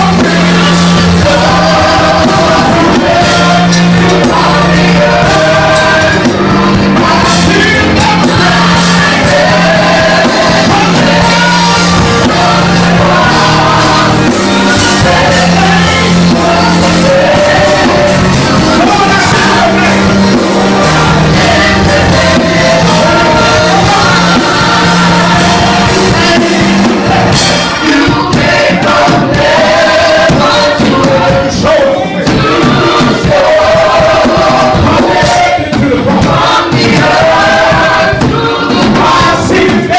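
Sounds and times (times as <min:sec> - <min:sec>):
gospel singing: 0:00.0 - 0:39.9
instrumental backing: 0:00.0 - 0:39.9.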